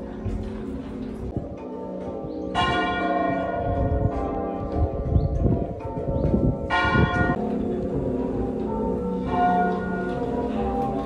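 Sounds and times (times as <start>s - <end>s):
muffled church bells ringing: 0.0s - 11.0s.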